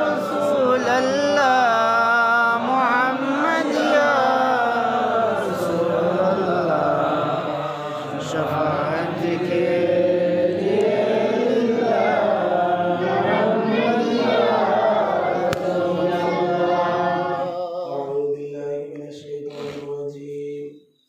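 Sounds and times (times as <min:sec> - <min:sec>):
voices chanting together: 0:00.0 - 0:21.0.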